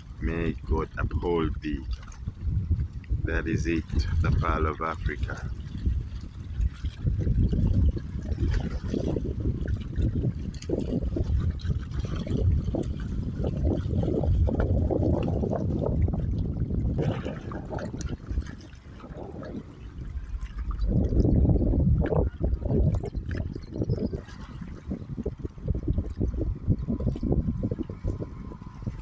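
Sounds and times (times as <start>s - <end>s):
lake water lapping: 0.0s - 29.0s.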